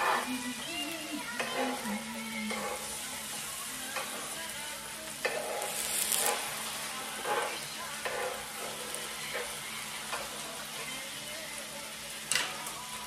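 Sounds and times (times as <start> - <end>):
spatula scraping on griddle: 0.0 - 11.6
food sizzling on a griddle: 0.0 - 13.0.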